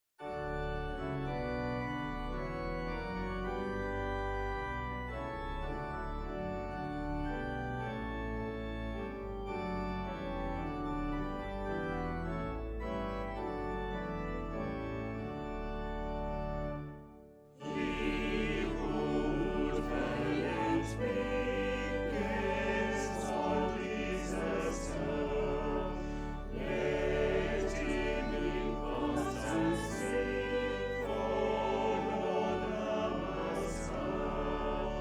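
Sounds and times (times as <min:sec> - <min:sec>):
organ playing slow chords: 0:00.2 - 0:35.0.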